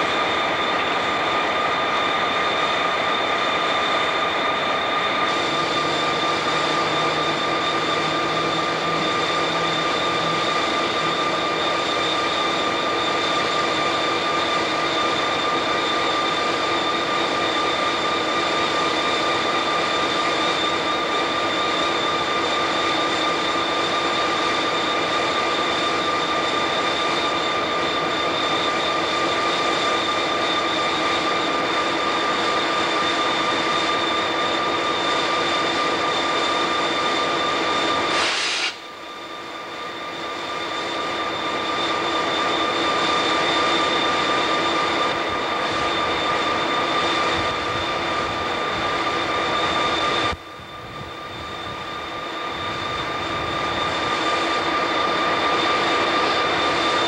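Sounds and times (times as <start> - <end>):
diesel locomotives droning: 0.0 - 57.0.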